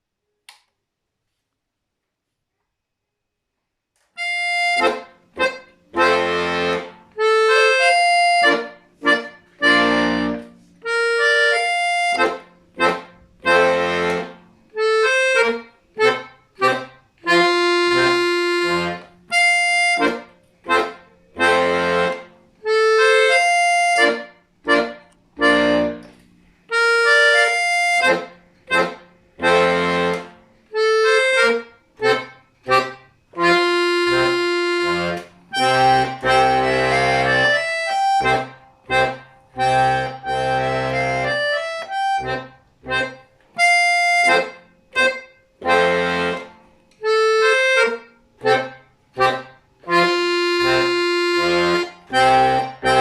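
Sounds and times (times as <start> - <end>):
solo accordion dance piece: 4.2 - 53.0.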